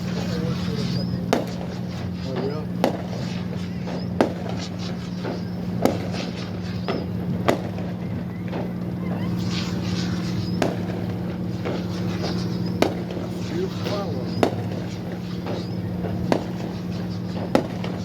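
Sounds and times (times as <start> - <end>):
crowd chatter: 0.0 - 18.0
faint firework pops: 0.0 - 18.0
fireworks loud bangs: 0.0 - 18.0
steady low hum: 0.0 - 18.0.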